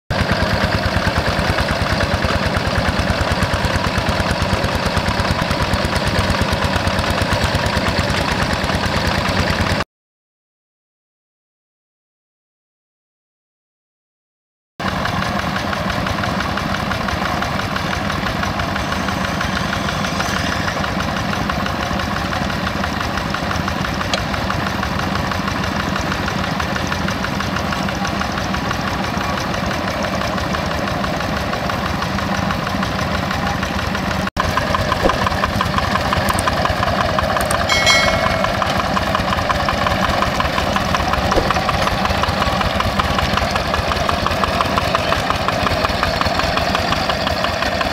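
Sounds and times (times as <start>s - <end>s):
diesel engine running: 0.1s - 9.8s, 14.8s - 47.9s.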